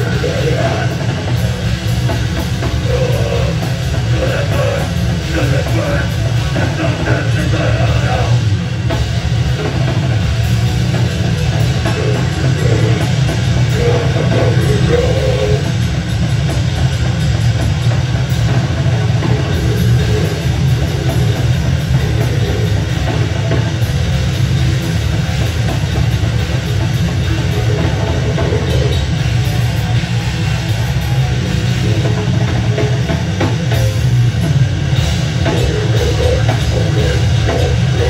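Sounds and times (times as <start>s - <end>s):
drum kit: 0.0s - 38.0s
electric bass: 0.0s - 38.0s
electric guitar: 0.0s - 38.0s.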